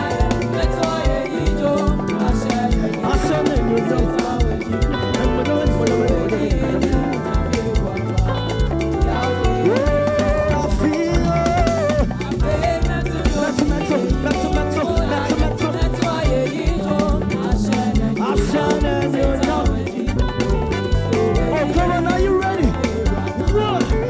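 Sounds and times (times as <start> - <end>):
bass: 0.0 - 24.0
drum kit: 0.0 - 24.0
live band playing praise music: 0.0 - 24.0
voices singing: 0.0 - 24.0.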